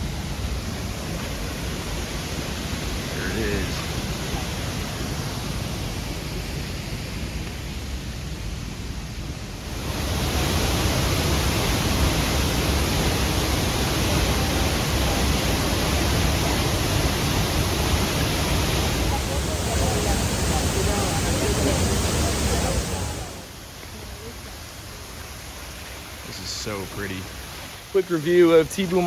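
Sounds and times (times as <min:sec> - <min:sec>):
waterfall rushing: 0:00.0 - 0:07.8, 0:09.5 - 0:29.0.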